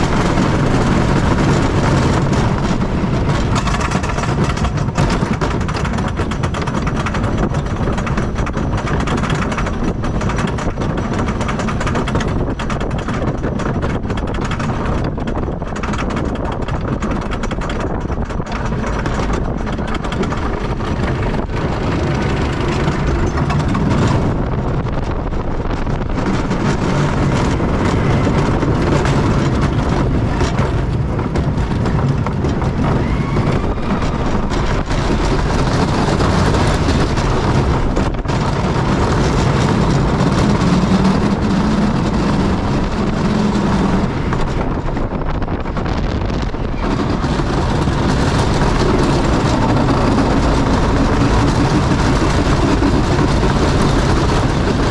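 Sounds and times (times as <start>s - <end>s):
roller coaster rumbling and rattling: 0.0s - 54.9s.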